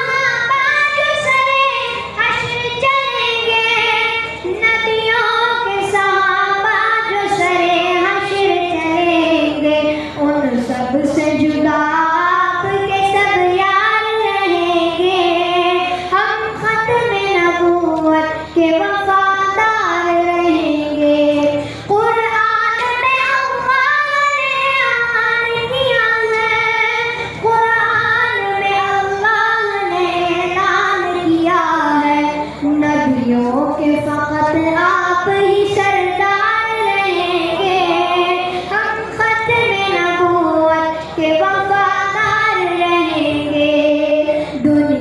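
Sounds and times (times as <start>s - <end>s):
boy singing into a microphone: 0.0s - 45.0s.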